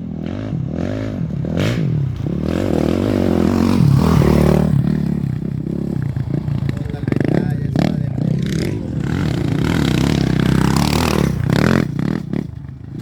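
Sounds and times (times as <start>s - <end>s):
motorcycle engine revving past: 0.0s - 13.0s.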